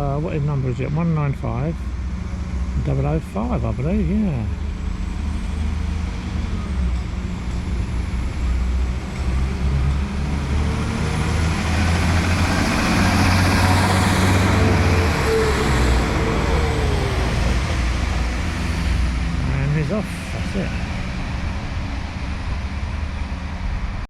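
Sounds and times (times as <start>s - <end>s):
diesel train engines running: 0.0s - 24.0s.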